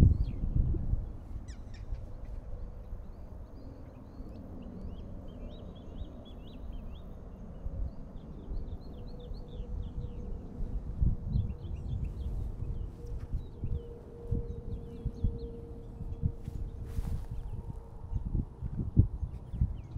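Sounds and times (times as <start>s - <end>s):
songbirds chirping: 0.0s - 19.9s.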